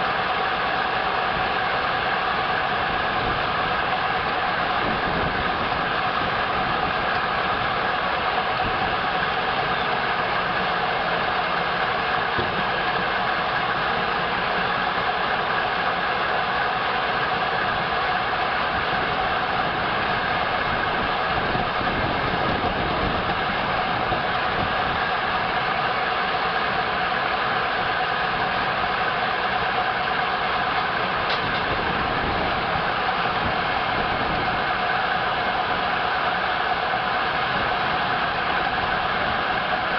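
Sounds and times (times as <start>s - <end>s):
steam engine running a sawmill: 0.0s - 39.9s.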